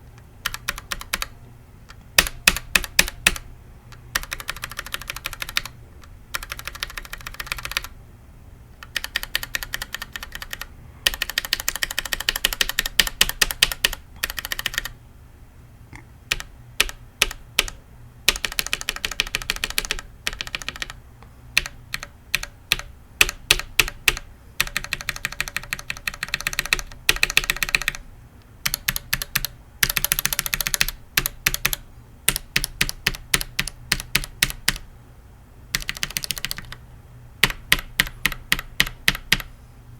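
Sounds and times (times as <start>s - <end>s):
mechanical keyboard keys clacking: 0.4s - 1.3s, 1.9s - 7.9s, 8.8s - 15.0s, 16.3s - 21.0s, 21.6s - 28.0s, 28.6s - 34.8s, 35.7s - 36.8s, 37.4s - 39.5s.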